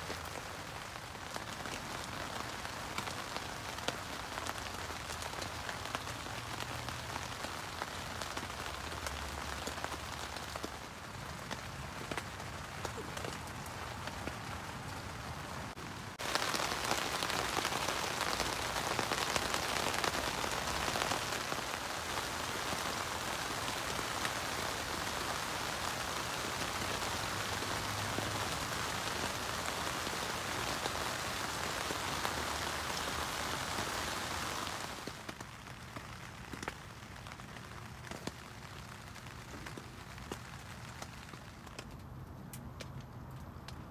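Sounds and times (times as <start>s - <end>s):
rain drumming on tent fabric: 0.0s - 43.9s
steady rain falling: 0.0s - 43.9s.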